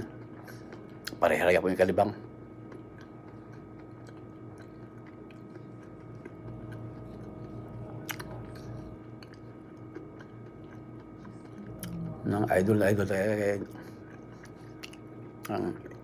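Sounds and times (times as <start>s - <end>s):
man chewing nuts: 0.0s - 1.3s, 2.2s - 16.0s
faint steady hum: 0.0s - 16.0s.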